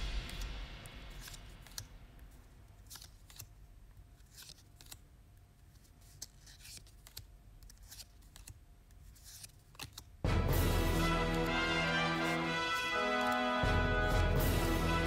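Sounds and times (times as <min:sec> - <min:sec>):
trading cards swishing and clicking: 0:00.0 - 0:10.2, 0:10.8 - 0:14.4.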